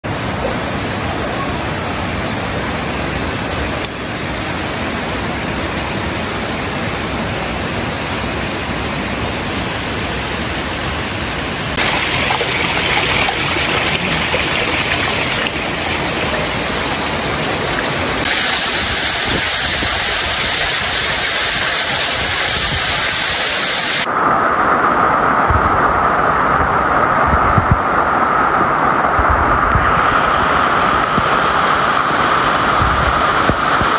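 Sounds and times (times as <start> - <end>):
water rushing over rocks: 0.0 - 33.9.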